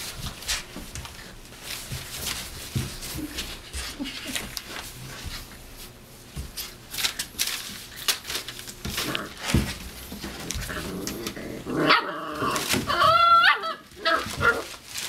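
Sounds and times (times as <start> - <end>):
puppies scuffling on newspaper: 0.0 - 15.0.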